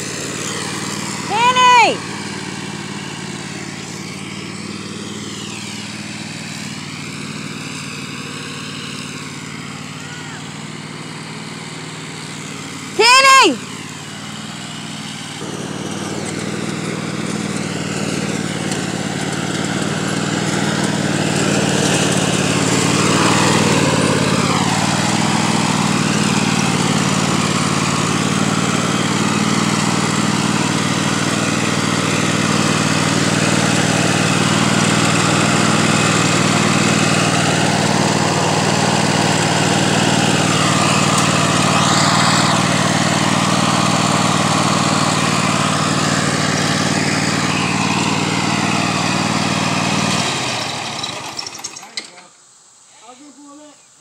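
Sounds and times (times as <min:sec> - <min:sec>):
riding mower engine running: 0:00.0 - 0:52.3.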